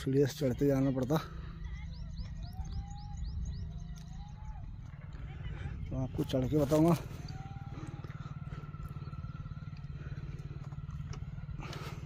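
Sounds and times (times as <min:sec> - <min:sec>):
motor droning with fast pulse: 0:01.2 - 0:12.0.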